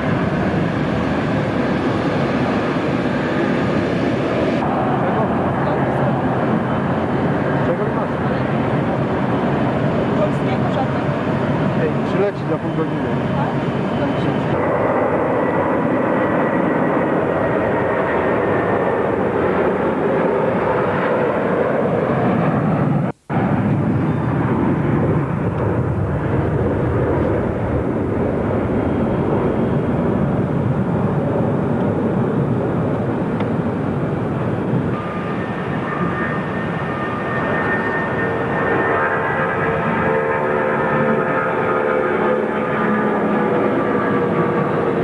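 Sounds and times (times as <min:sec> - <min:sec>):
jet engines roaring at takeoff: 0:00.0 - 0:45.0.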